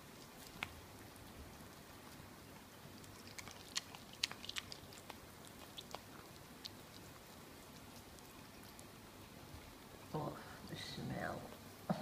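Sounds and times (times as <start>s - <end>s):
dog chewing meat: 0.0s - 10.1s.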